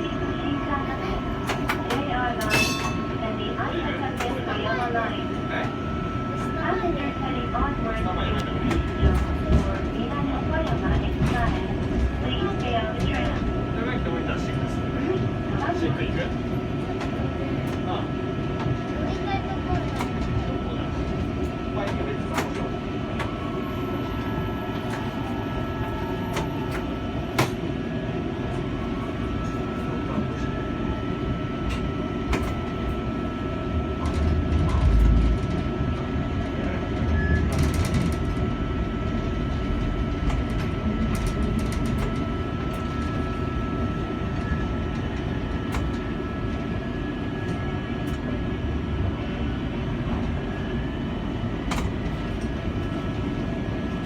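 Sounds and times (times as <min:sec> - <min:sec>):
streetcar wheels rumbling: 0:00.0 - 0:54.0.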